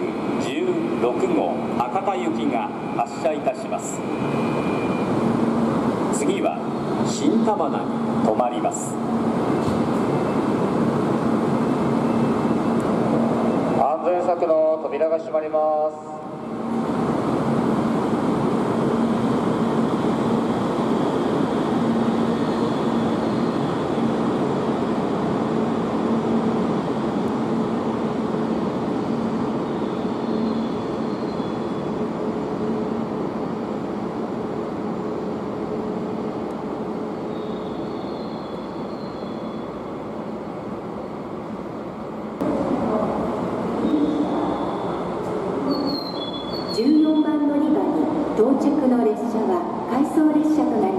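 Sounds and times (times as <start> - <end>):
train rushing with steady hum: 0.0 - 50.9.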